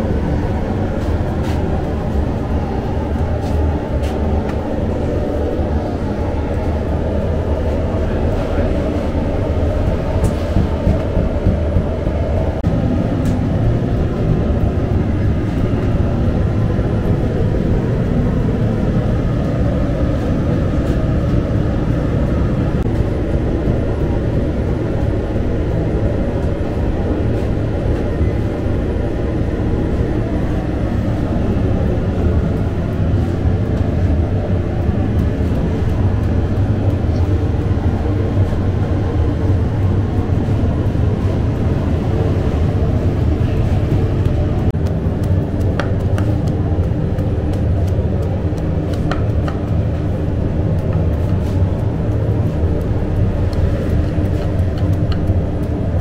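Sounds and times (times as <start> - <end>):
bakery machinery roaring: 0.0 - 56.0.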